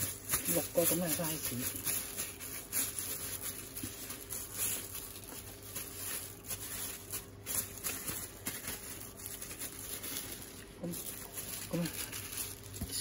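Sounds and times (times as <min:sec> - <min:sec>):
plastic gloves rustling: 0:00.0 - 0:13.0.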